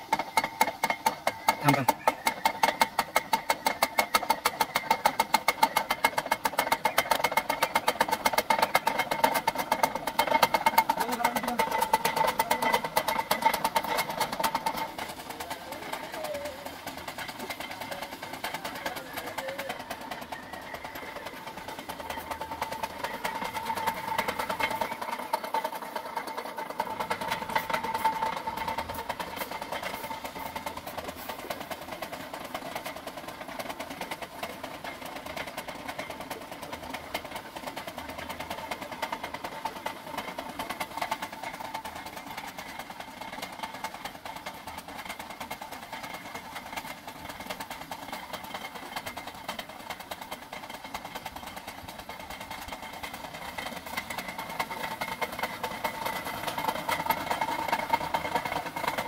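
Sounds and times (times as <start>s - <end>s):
flywheel generator whining and rattling: 0.0s - 59.0s.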